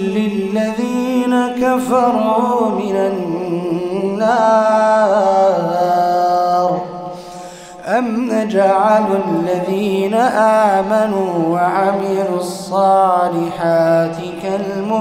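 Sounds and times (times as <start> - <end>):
man chanting recitation: 0.0 - 7.1, 7.8 - 15.0.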